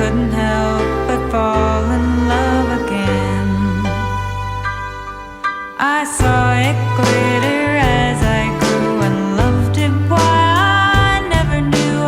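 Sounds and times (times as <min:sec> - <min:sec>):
song melody over bass: 0:00.0 - 0:12.0.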